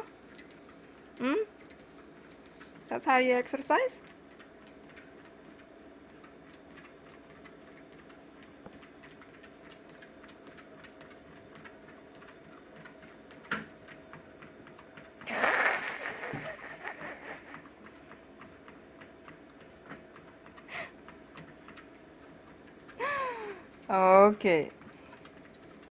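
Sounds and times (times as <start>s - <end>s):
treadmill motor and belt: 0.0s - 25.9s.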